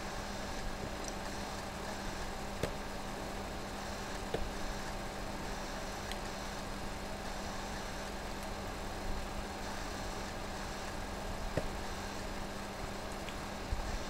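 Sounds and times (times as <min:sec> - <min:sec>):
microphone hiss and hum: 0:00.0 - 0:14.0.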